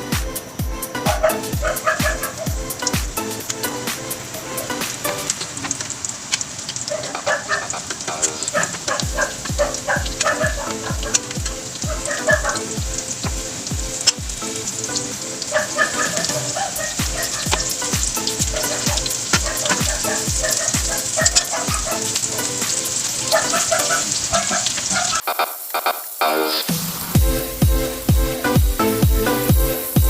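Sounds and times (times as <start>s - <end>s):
background music with steady beat: 0.0s - 5.7s, 8.1s - 24.2s, 25.2s - 30.0s
chicken deep-frying in hot oil: 0.0s - 30.0s.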